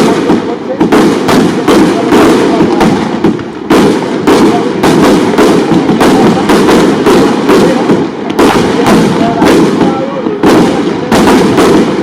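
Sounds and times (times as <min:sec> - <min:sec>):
fireworks bangs: 0:00.0 - 0:12.0
fireworks crackling hiss: 0:00.0 - 0:12.0.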